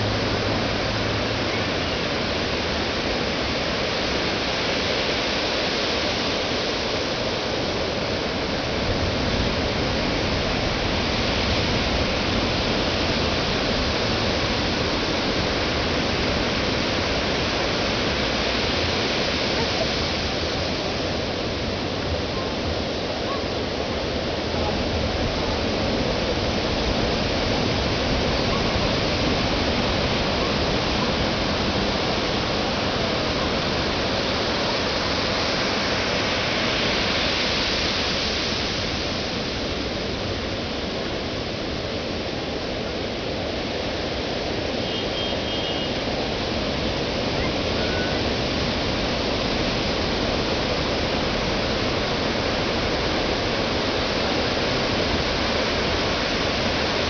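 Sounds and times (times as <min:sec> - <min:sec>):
ocean surf breaking: 0:00.0 - 0:57.0.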